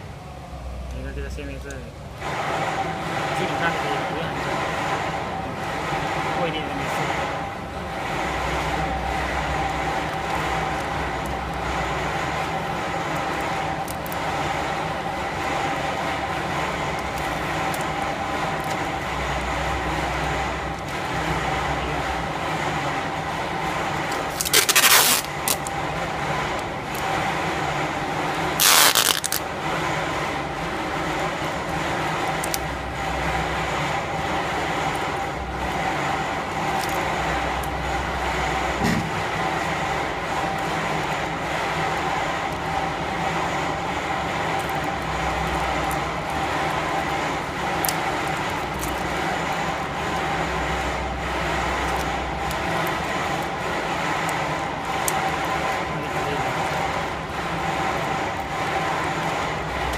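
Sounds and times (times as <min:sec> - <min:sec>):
machinery hum: 0:00.0 - 0:59.9.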